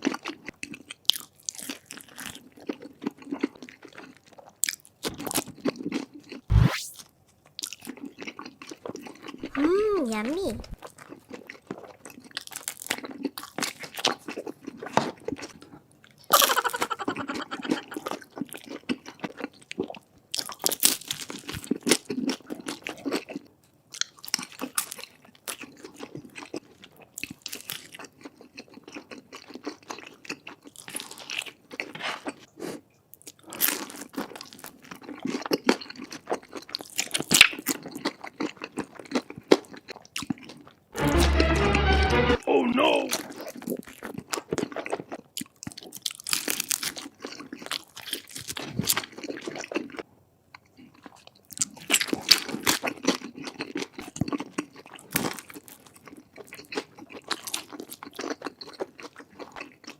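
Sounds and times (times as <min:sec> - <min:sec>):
person chewing crunchy food: 0:00.0 - 0:07.0, 0:07.6 - 0:42.1, 0:43.1 - 0:59.9.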